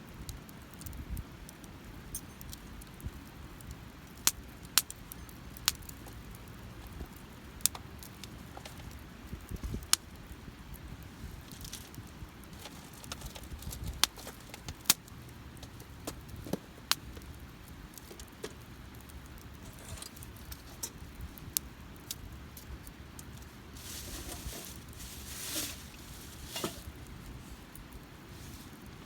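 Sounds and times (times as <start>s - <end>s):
campfire crackling and popping: 0.0s - 29.0s
soft rushing of fire: 0.1s - 29.0s.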